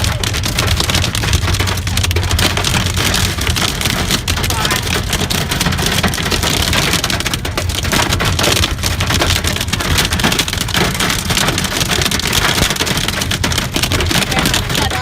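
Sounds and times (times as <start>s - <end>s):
hail and heavy rain pelting: 0.0s - 15.0s.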